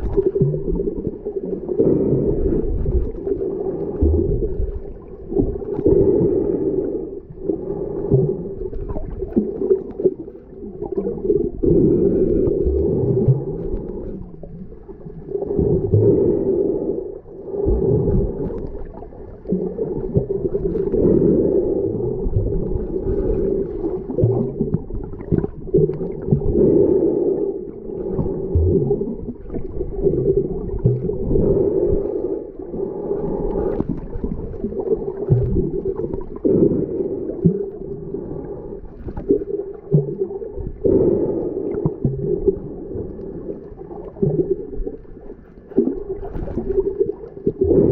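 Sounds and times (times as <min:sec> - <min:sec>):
muffled underwater rushing: 0:00.0 - 0:47.9.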